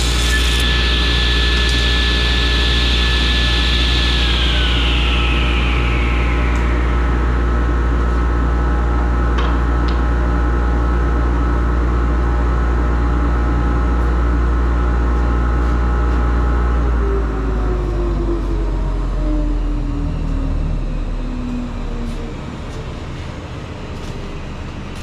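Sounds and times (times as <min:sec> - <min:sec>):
dust collector droning: 0:00.0 - 0:25.0.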